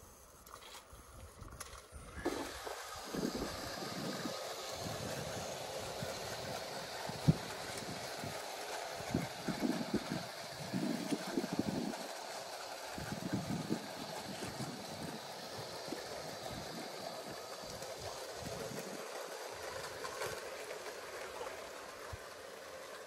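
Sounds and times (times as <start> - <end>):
model train rumbling on rails: 0.0 - 23.0.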